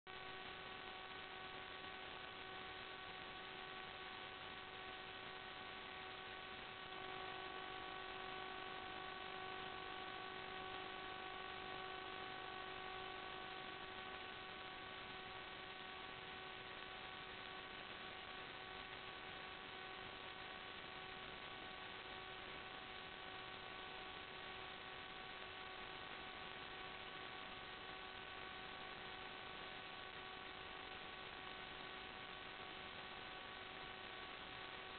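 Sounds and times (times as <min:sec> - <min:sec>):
electrical hum: 0:00.1 - 0:34.9.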